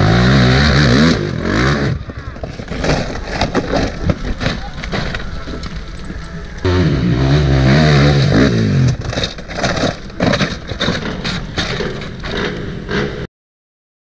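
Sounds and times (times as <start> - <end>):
dirt bike engine revving: 0.0 - 13.3
bike crashing and tumbling: 0.1 - 13.2.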